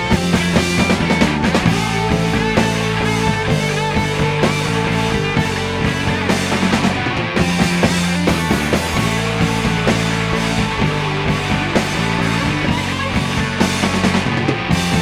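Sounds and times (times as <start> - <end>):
rock band playing instrumental: 0.0 - 15.0.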